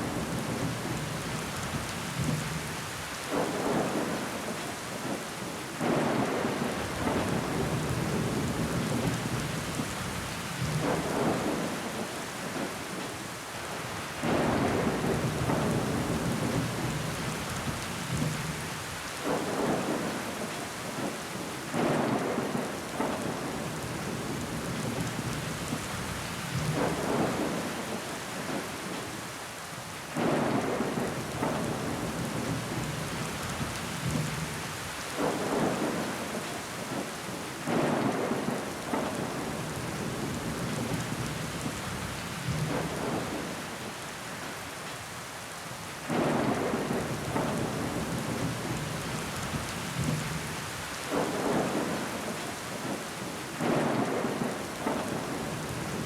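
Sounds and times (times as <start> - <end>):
rain beating on window glass: 0.0 - 56.0.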